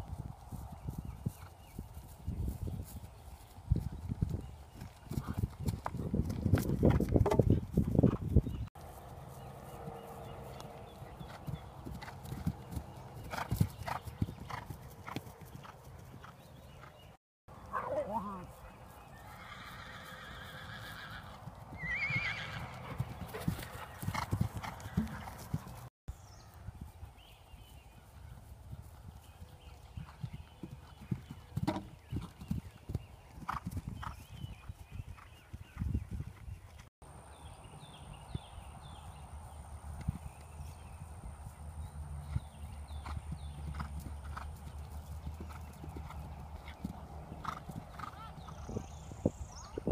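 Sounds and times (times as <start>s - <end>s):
horse hoofbeats on grass: 0.0s - 36.8s, 37.4s - 49.9s.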